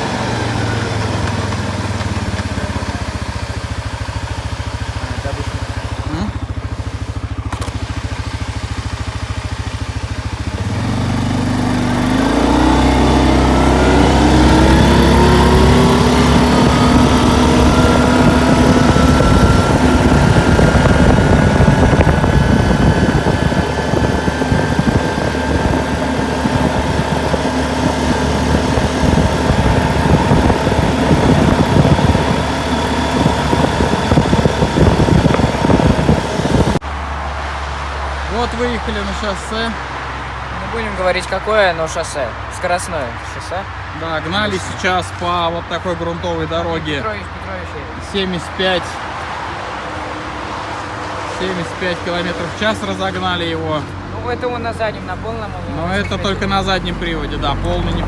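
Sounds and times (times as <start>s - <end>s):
tyres on dirt road: 0.0s - 58.0s
vehicle engine revving: 0.0s - 58.0s.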